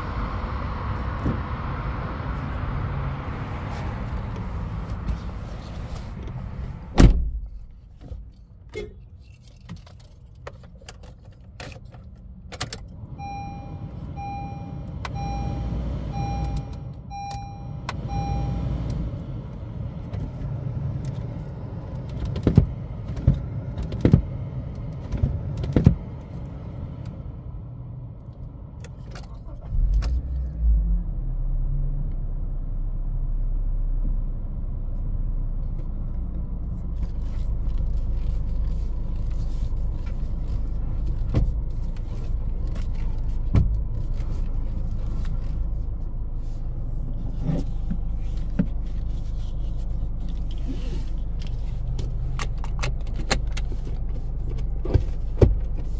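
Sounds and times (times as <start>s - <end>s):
low rumble and hum: 0.0s - 55.9s.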